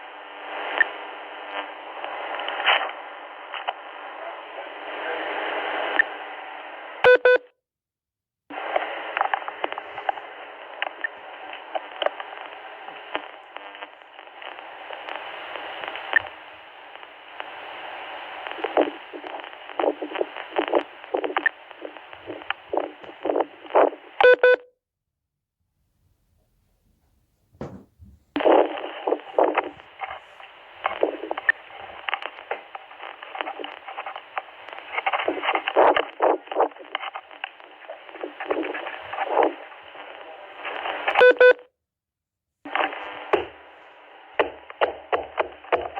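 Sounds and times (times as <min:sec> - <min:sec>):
radio static crackling: 0:00.0 - 0:07.1, 0:08.5 - 0:24.6, 0:27.6 - 0:41.6, 0:42.6 - 0:45.9.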